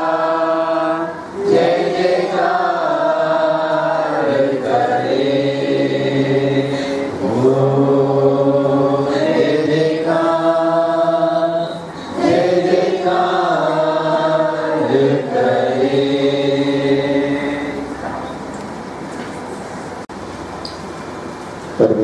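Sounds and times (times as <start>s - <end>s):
congregation singing a hymn: 0.0s - 18.4s.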